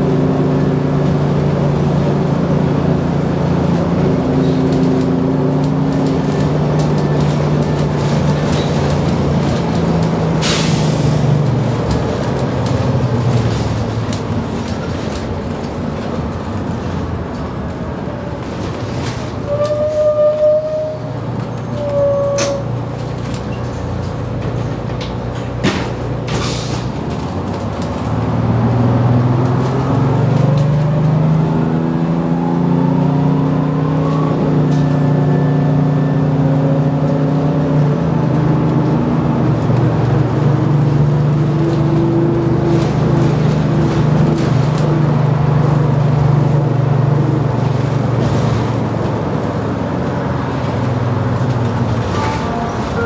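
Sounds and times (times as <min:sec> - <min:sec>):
bus diesel engine revving: 0:00.0 - 0:17.8, 0:21.0 - 0:53.0.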